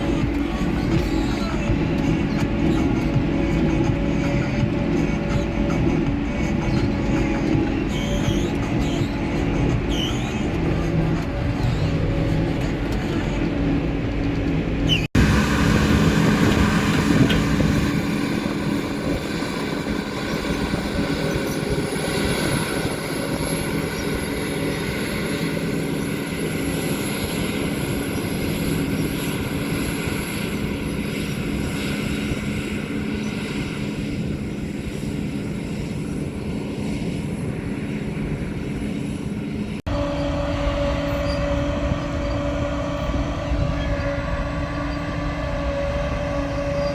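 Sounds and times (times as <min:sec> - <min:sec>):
diesel engine drone: 0:00.0 - 0:46.9.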